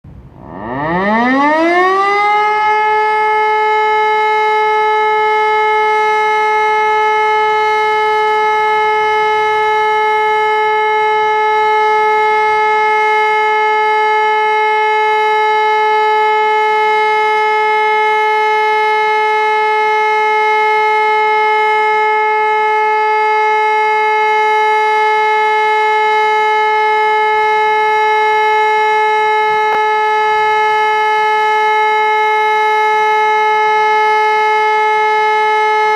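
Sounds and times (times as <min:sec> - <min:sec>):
siren continuous tone: 0:00.1 - 0:35.9.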